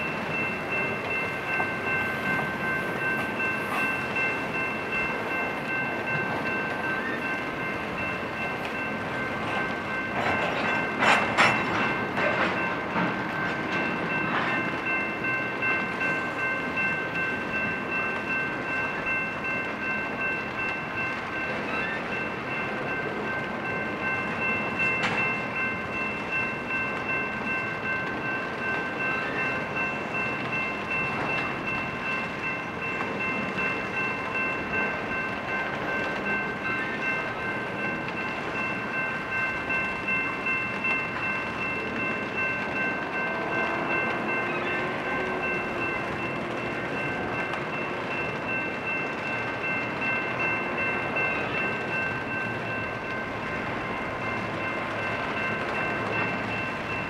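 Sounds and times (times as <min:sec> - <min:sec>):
freight train cars rumbling: 0:00.0 - 0:57.0.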